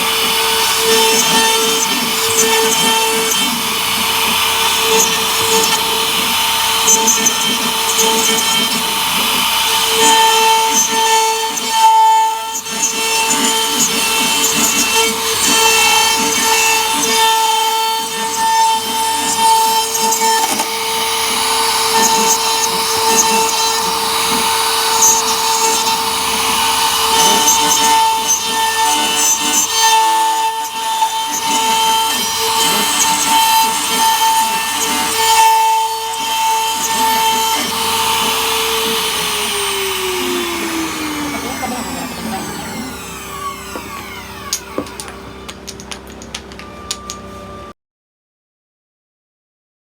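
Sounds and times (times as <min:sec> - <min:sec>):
bit rasping into wood: 0:00.0 - 0:47.6
router spindle whining: 0:00.0 - 0:47.7.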